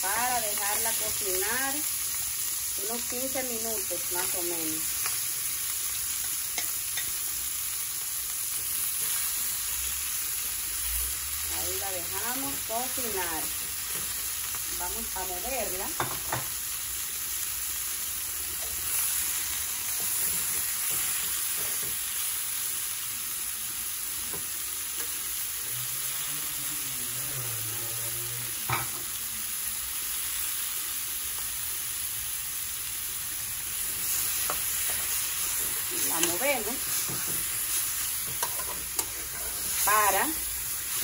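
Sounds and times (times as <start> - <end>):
meat sizzling in oil: 0.0 - 41.0.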